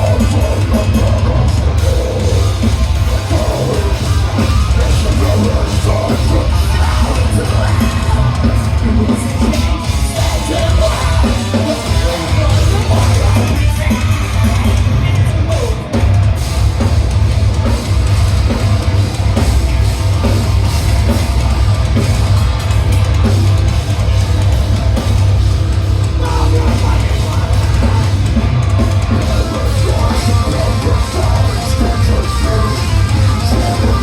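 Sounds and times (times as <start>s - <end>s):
distorted electric guitar: 0.0s - 34.0s
drum kit pounding: 0.0s - 34.0s.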